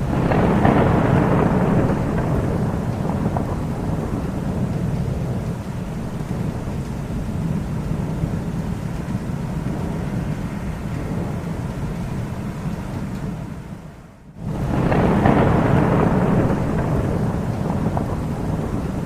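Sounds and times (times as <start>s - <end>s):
rolling thunder rumble: 0.0s - 19.0s.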